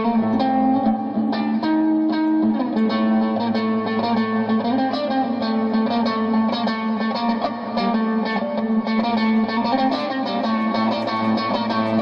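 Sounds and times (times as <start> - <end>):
electric guitar picked notes: 0.0 - 12.0.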